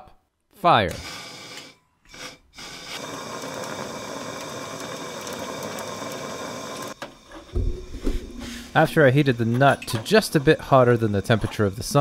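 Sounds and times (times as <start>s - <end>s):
gas torch flame burning: 1.0s - 12.0s.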